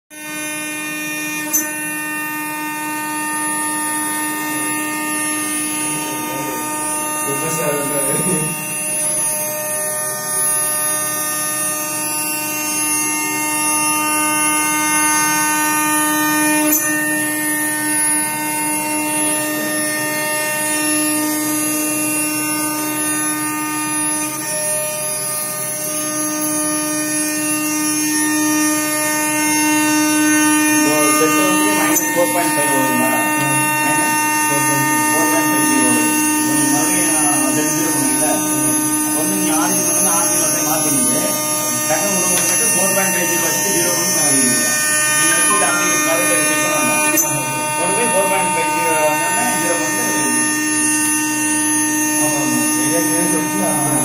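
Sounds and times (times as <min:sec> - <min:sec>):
router spindle whining: 0:00.1 - 0:54.0.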